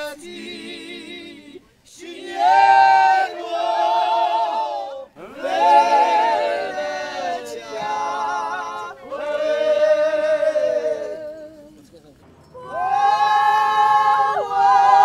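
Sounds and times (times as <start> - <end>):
unaccompanied group folk singing: 0.0 - 15.0.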